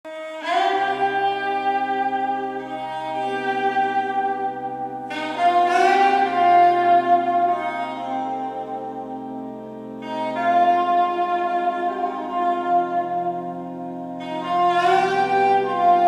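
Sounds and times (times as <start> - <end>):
music through loudspeakers: 0.1 - 16.0.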